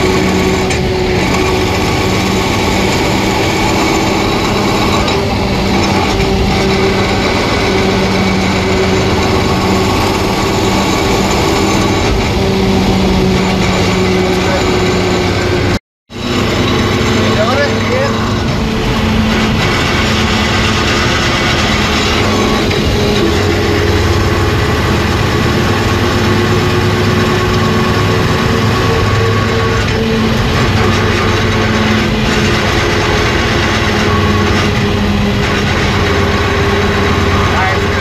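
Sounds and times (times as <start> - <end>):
transmission grinding whine: 0.0 - 38.0.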